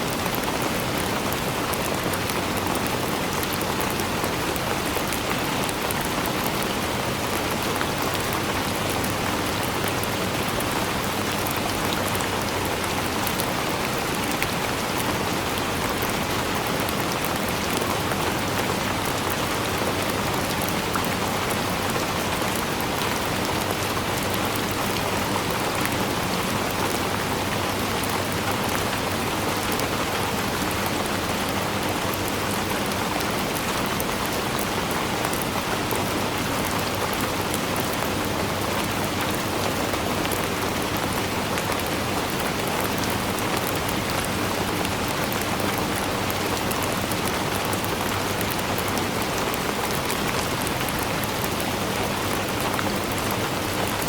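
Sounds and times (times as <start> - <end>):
dense rainfall: 0.0 - 54.0.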